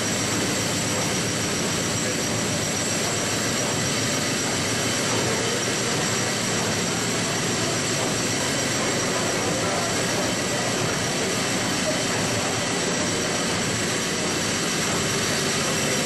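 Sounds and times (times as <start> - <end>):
steam engine machinery din: 0.0 - 16.0.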